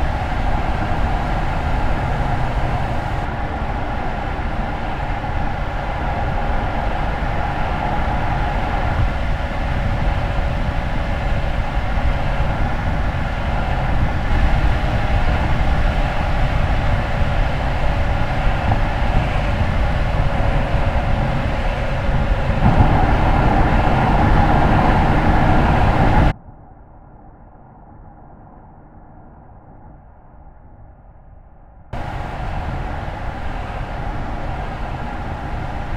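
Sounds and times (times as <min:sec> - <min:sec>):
car road rumble: 0:00.0 - 0:26.3, 0:32.0 - 0:35.9
hum of steady tones: 0:00.0 - 0:26.3, 0:32.0 - 0:35.9.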